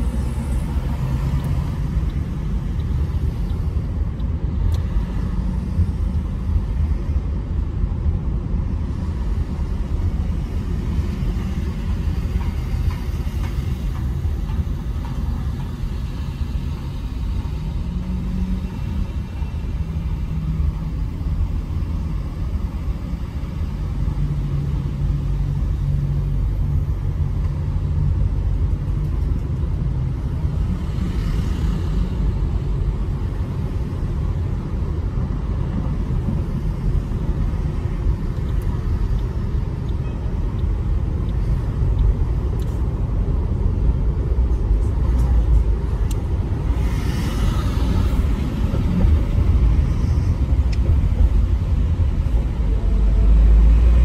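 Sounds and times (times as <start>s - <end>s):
tyres and engine rumble inside car: 0.0s - 54.0s.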